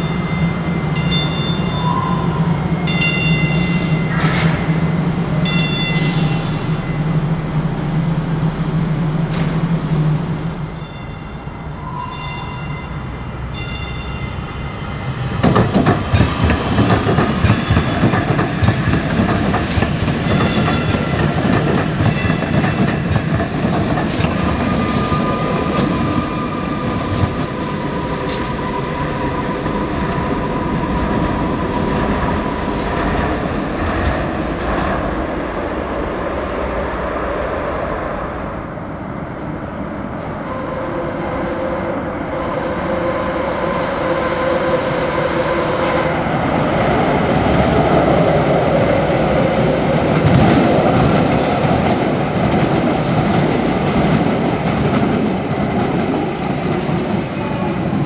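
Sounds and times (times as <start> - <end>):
steady train whine: 0.0 - 58.0.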